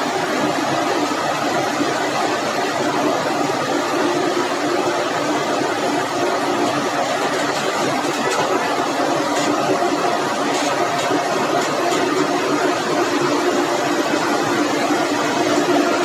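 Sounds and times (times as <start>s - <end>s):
heavy engines running: 0.0s - 16.0s.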